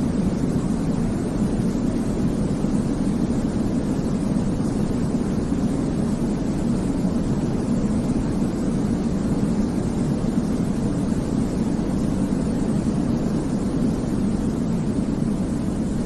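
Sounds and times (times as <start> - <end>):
low white noise hiss: 0.0 - 16.0.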